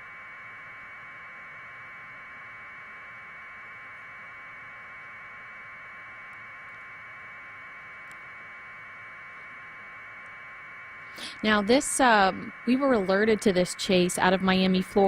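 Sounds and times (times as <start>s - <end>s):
steady static hiss: 0.0s - 15.0s.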